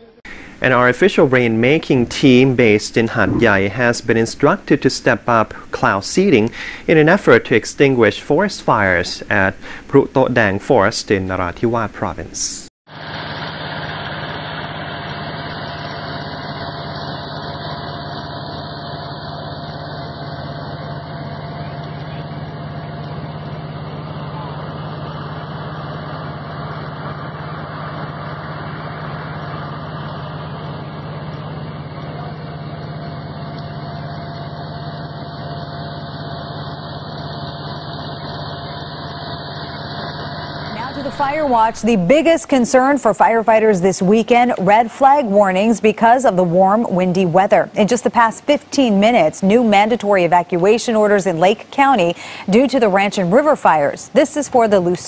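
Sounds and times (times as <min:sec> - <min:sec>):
engine running drone: 0:00.0 - 0:10.0, 0:12.9 - 0:55.0.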